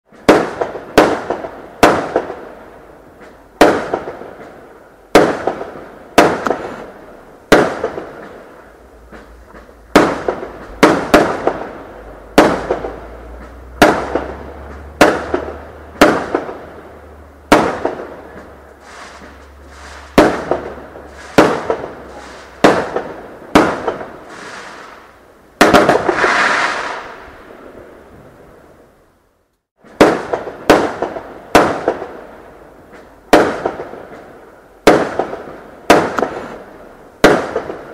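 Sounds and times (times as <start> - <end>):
fireworks banging and crackling: 0.1 - 28.5, 29.8 - 37.9.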